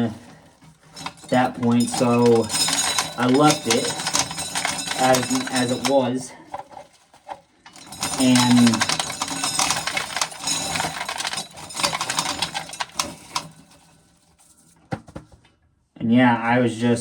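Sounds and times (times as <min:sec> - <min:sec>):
corn kernels rattling into container: 0:00.0 - 0:14.5.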